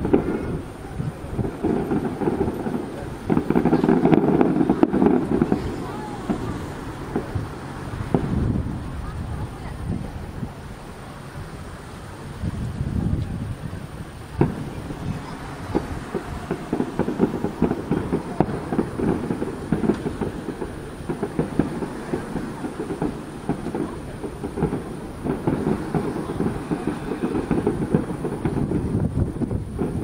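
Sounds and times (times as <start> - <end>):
distant fireworks bangs and pops: 0.0 - 11.5, 12.2 - 30.0.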